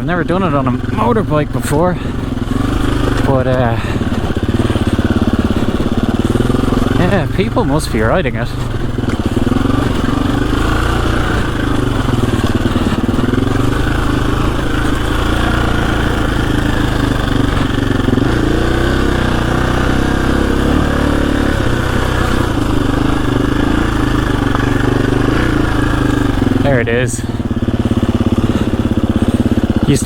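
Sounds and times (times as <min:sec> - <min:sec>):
dirt bike engine at low revs: 0:00.0 - 0:30.0.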